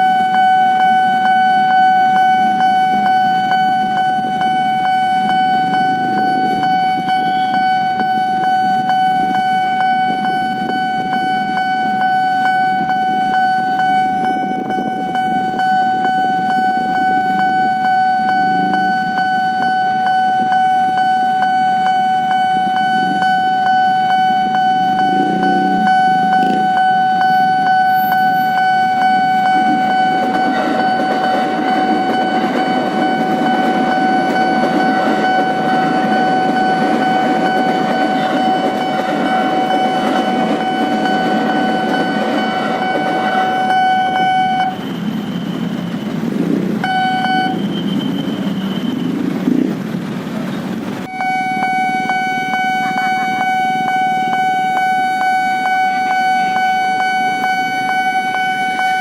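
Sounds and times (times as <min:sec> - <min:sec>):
level crossing alarm tone: 0:00.0 - 0:49.3, 0:51.0 - 0:59.0
electric train rumbling past: 0:00.0 - 0:59.0.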